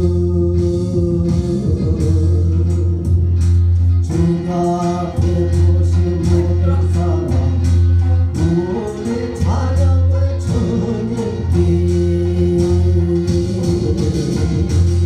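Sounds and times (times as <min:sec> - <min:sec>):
backing track with bass and beat: 0:00.0 - 0:15.0
man singing into microphone: 0:00.0 - 0:15.0.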